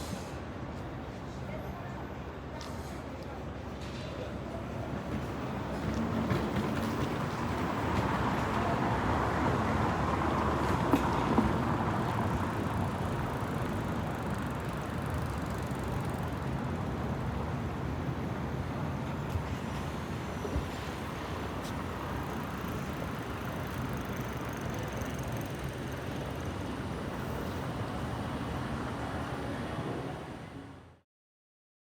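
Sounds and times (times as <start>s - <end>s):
passing vehicles: 4.4s - 30.9s.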